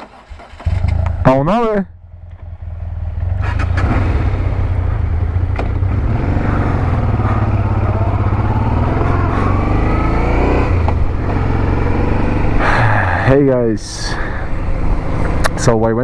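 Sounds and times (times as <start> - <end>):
motorcycle engine revving: 0.0 - 1.4, 2.0 - 15.9.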